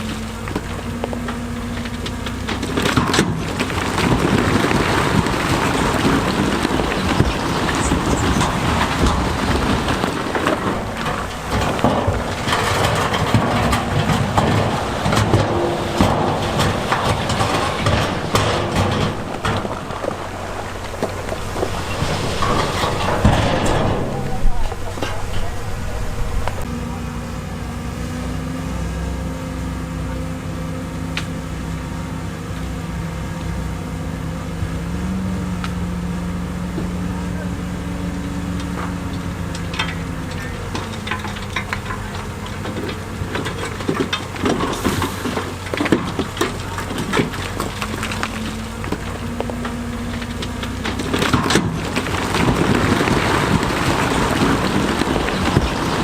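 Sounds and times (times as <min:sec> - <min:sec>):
stones grinding and knocking: 0:00.0 - 0:26.7, 0:37.8 - 0:56.0
diesel machinery engine rumble: 0:00.0 - 0:56.0.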